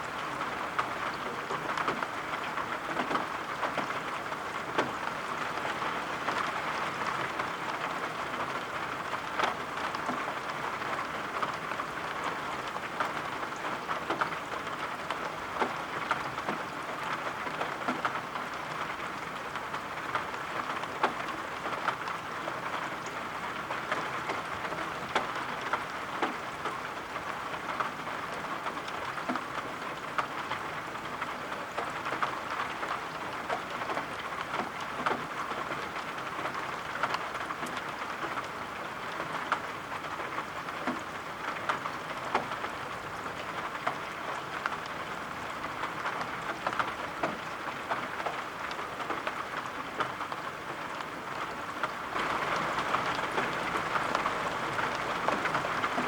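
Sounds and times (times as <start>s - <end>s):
steady rain falling: 0.0s - 56.0s
sharp taps of raindrops: 0.7s - 56.0s.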